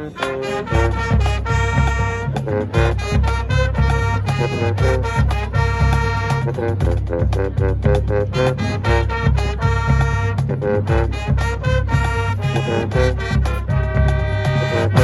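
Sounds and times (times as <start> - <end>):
brass playing punchy chords: 0.0 - 15.0
drumline beat: 0.0 - 15.0.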